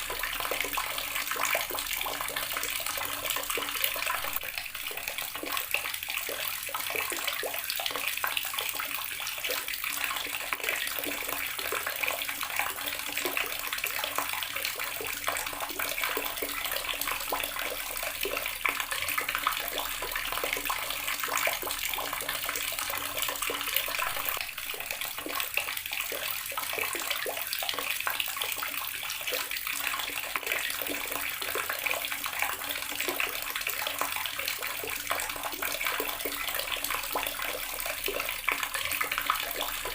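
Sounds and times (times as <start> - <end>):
water running from tap: 0.0 - 39.9.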